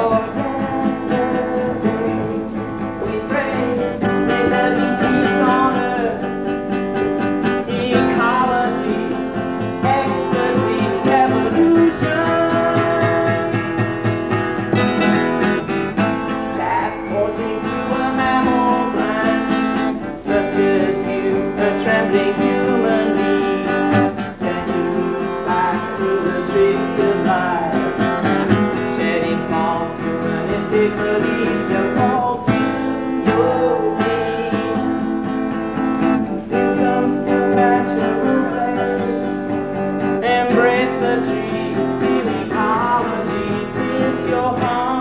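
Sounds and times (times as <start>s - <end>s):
solo acoustic guitar folk song: 0.0s - 45.0s.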